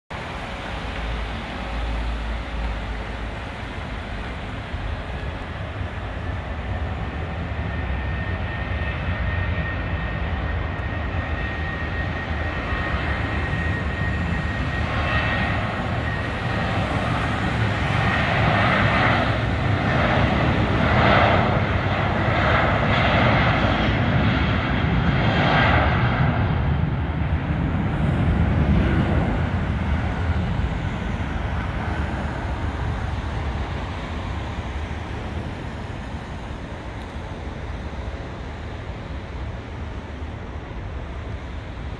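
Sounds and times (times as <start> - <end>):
jet engines at takeoff: 0.1 - 41.9.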